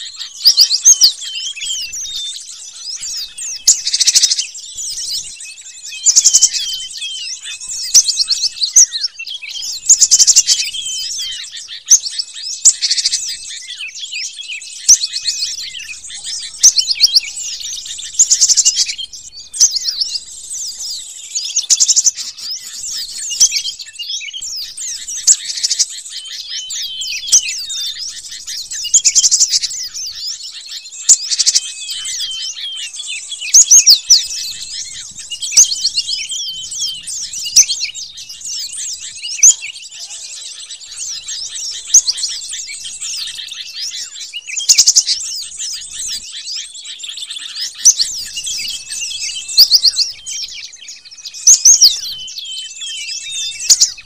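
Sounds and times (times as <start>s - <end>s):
bird chirps and chattering: 0.0s - 54.0s.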